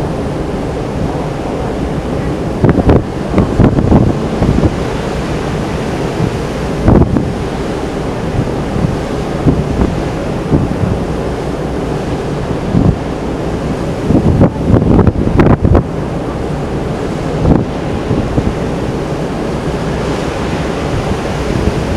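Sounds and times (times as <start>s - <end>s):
rush of open sea: 0.0s - 21.9s
wind buffeting microphone: 0.0s - 21.9s.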